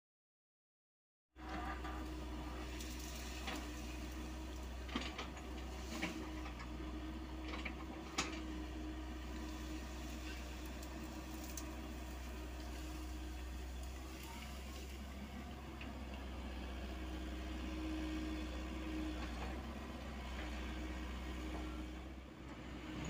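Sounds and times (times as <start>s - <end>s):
excavator diesel engine running: 1.4s - 23.0s.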